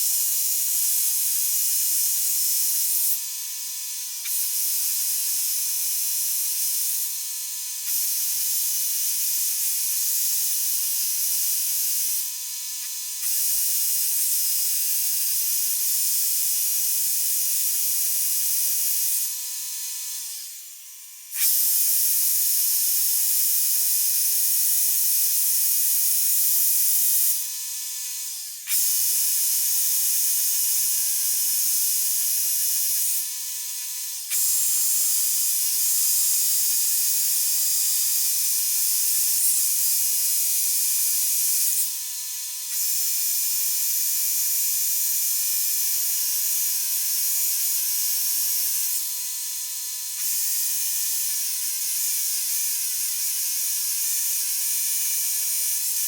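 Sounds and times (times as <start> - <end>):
power tool motor whining: 0.0 - 56.0.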